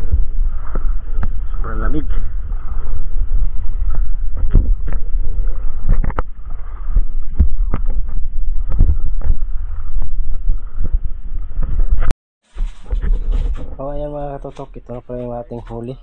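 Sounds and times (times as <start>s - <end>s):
underwater rumble: 0.0s - 15.1s.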